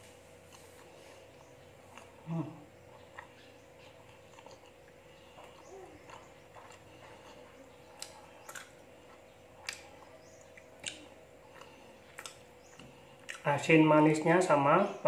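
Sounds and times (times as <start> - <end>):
chewing rice cake: 0.0 - 13.8.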